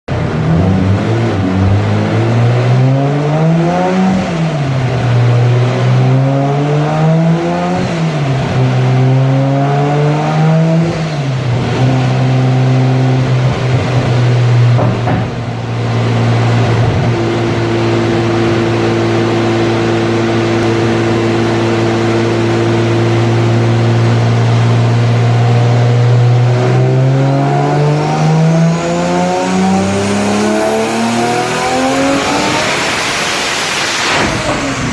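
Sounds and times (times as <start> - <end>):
engine revving on a dyno: 0.1 - 34.9.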